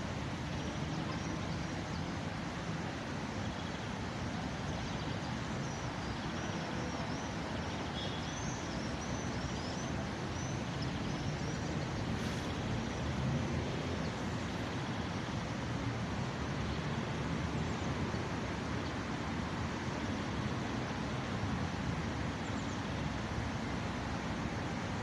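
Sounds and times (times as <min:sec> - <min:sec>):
traffic road noise: 0:00.0 - 0:25.0.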